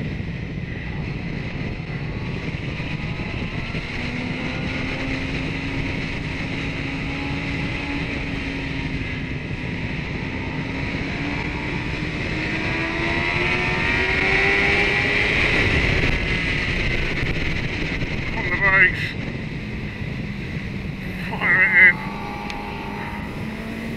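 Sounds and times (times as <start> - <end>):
motorcycle engine at speed: 0.0 - 23.9.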